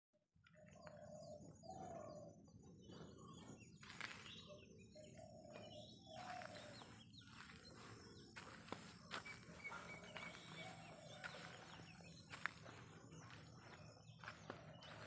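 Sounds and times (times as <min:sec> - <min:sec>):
birds chirping and whistling: 0:00.6 - 0:15.0.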